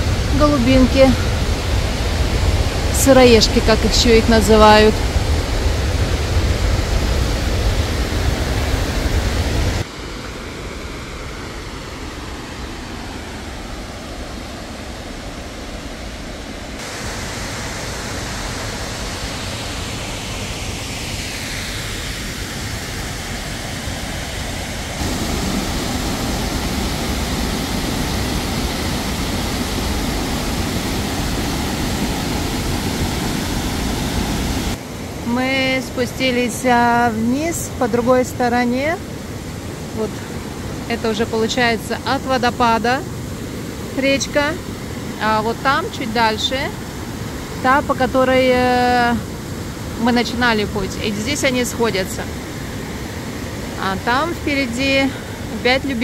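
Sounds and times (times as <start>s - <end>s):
waterfall rushing water: 0.0s - 38.3s, 39.0s - 56.0s.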